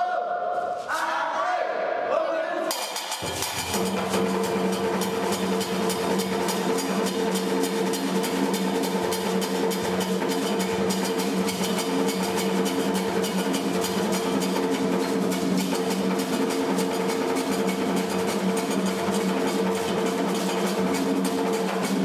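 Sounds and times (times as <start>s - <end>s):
hand drums fast rhythm: 2.7s - 22.0s.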